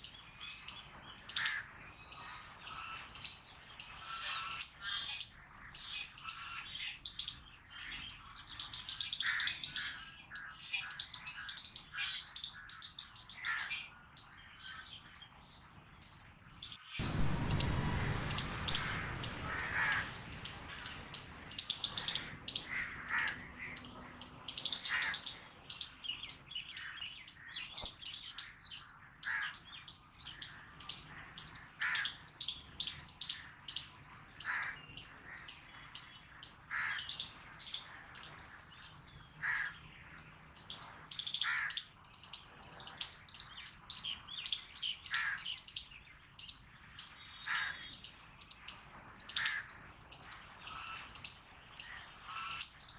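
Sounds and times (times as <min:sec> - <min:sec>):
squirrel barking: 0:00.0 - 0:07.5, 0:08.1 - 0:14.8, 0:18.4 - 0:39.8, 0:40.6 - 0:52.9.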